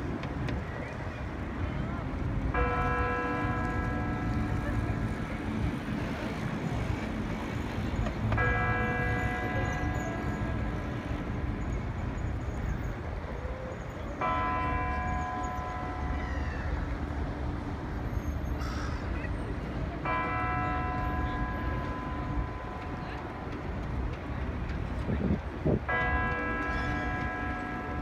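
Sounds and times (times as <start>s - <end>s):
low rumble of city noise: 0.0s - 28.0s.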